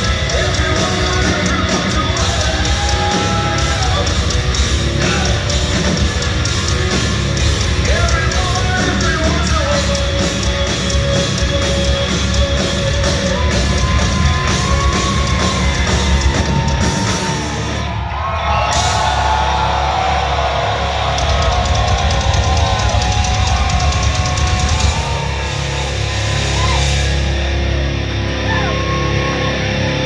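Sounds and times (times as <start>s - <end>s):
distorted electric guitars: 0.0s - 30.0s
drums: 0.0s - 30.0s.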